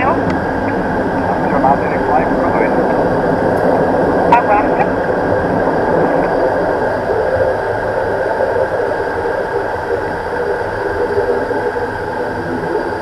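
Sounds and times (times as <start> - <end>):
turboprop engine hum in cockpit: 0.0 - 13.0.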